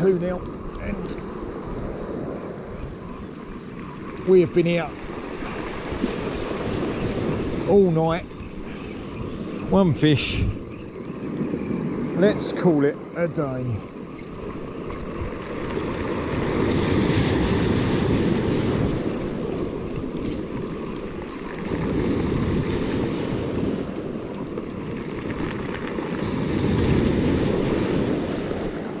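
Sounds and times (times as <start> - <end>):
wind rumbling on microphone: 0.0 - 29.0
surf breaking on beach: 4.1 - 29.0.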